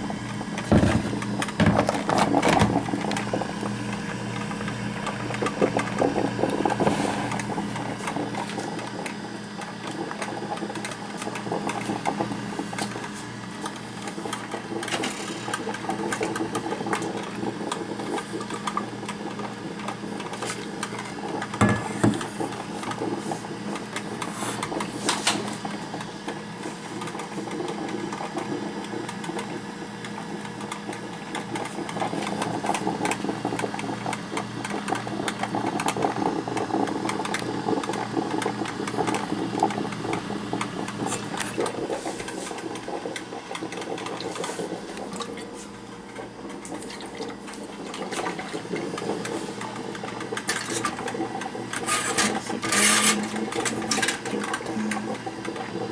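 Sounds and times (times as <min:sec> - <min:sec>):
coffee maker hum: 0:00.0 - 0:55.9
coffee maker sputtering: 0:00.0 - 0:55.9.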